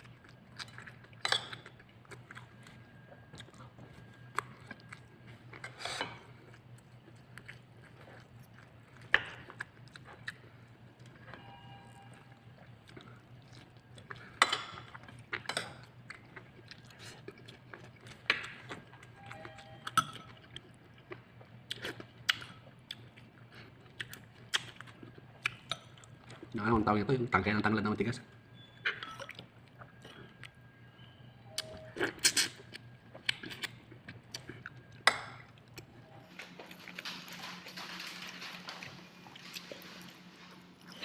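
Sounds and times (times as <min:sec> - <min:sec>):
person chewing with crunches: 0:00.0 - 0:26.6, 0:31.5 - 0:41.0.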